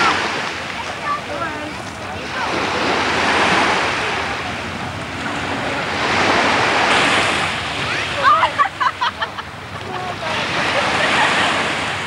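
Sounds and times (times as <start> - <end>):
sea surf washing ashore: 0.0 - 12.0.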